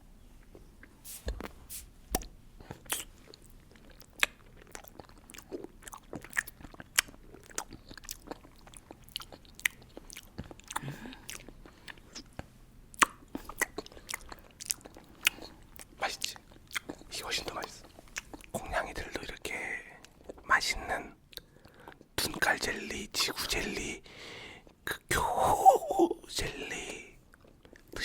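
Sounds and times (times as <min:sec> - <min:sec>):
wet chewing of jelly candies: 0:00.4 - 0:20.4, 0:21.3 - 0:22.5, 0:26.8 - 0:28.0.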